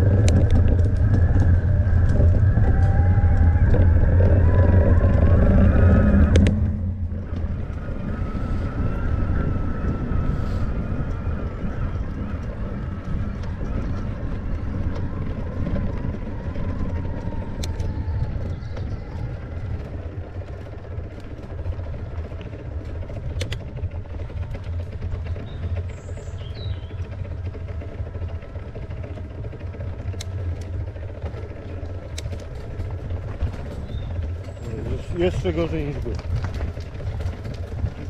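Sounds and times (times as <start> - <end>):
bike clicks and rattles: 0.0 - 38.0
bike tyres rumbling on dirt: 0.0 - 38.0
wind on camera: 0.0 - 38.0.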